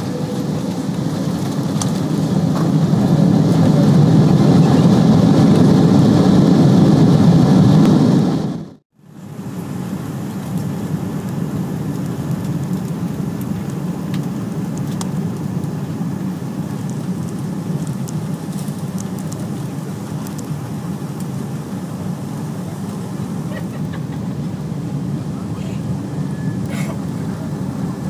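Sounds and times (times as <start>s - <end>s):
airliner cabin roar: 0.0s - 28.0s.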